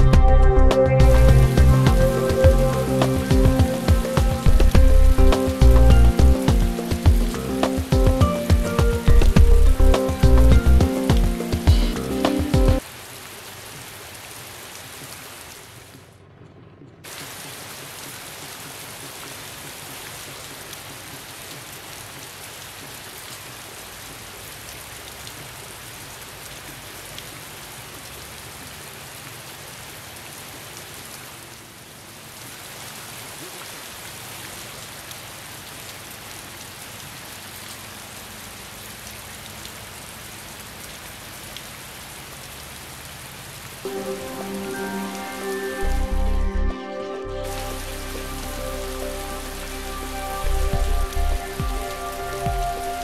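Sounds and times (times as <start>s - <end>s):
rushing water hiss: 1.0s - 16.1s, 17.0s - 46.4s, 47.3s - 53.0s.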